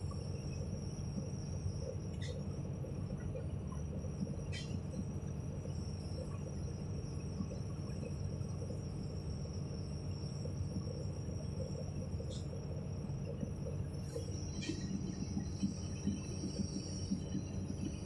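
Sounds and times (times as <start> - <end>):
thin high-pitched whine: 0.0 - 18.0.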